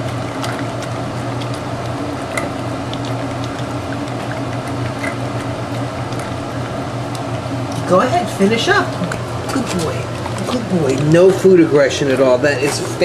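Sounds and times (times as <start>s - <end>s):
dog chewing and licking: 0.0s - 13.0s
steady low hum: 0.0s - 13.0s.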